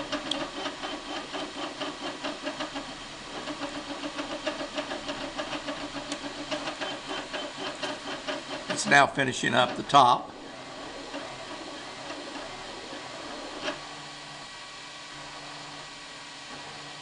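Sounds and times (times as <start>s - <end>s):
printer stepper motors: 0.0s - 17.0s.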